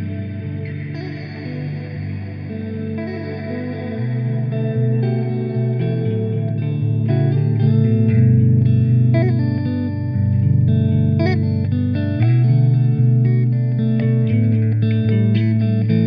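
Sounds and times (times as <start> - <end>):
electric guitar with reverb: 0.0 - 16.0.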